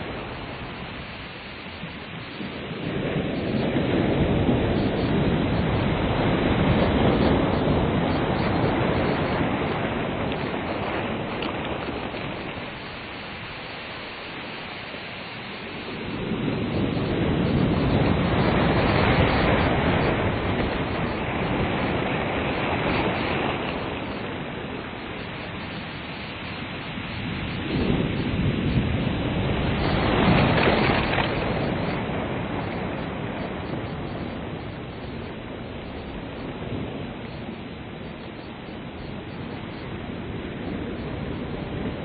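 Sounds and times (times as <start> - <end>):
ocean surf on a beach: 0.0 - 42.0.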